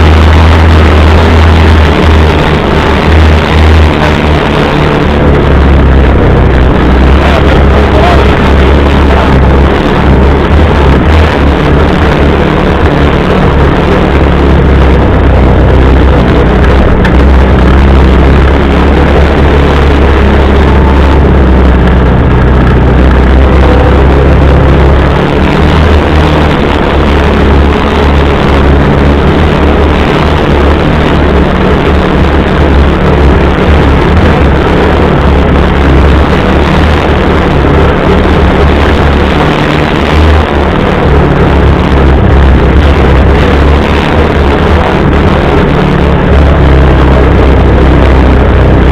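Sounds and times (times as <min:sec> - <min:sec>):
vehicle engine low drone: 0:00.0 - 0:48.9.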